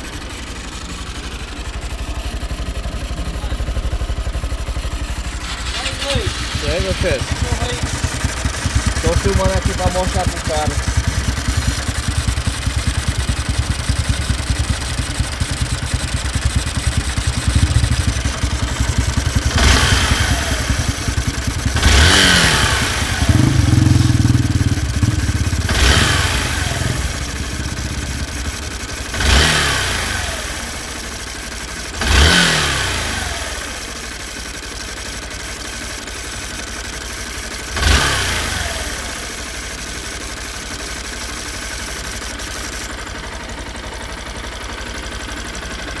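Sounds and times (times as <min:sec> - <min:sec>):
motorcycle engine idling and revving: 0:00.0 - 0:46.0.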